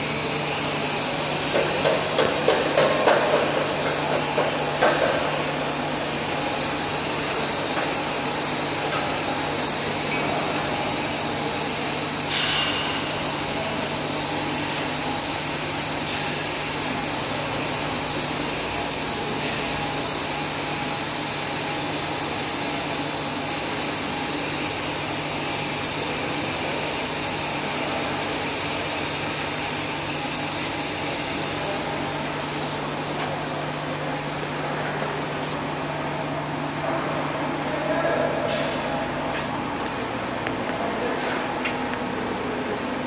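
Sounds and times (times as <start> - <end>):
welding hiss: 0.0 - 36.3.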